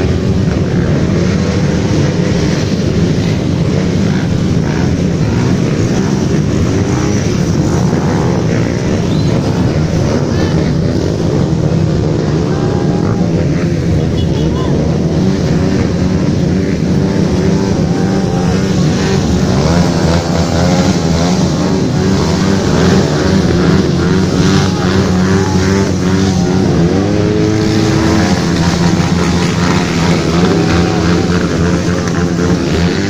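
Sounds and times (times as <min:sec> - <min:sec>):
motorcycle engine revving: 0:00.0 - 0:33.0
motorcycle engines running: 0:00.0 - 0:33.0.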